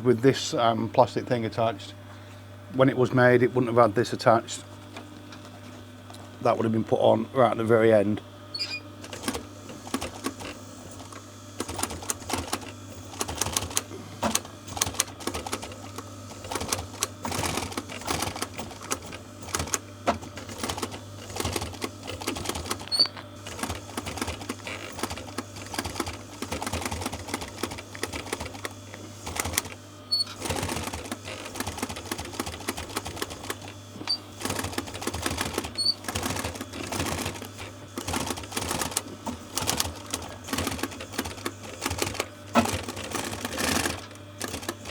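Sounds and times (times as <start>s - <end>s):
sewing machine stitching: 8.6s - 44.9s.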